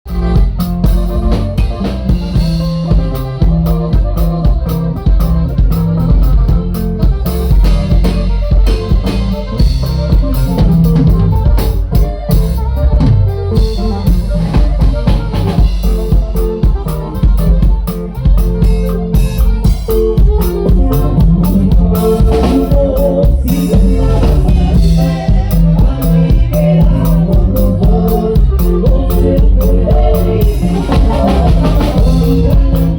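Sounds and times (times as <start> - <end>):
drum kit beat: 0.0 - 32.9.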